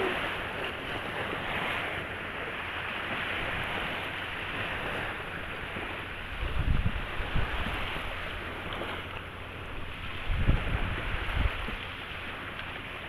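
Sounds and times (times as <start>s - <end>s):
sea surf hissing on sand: 0.0s - 13.0s.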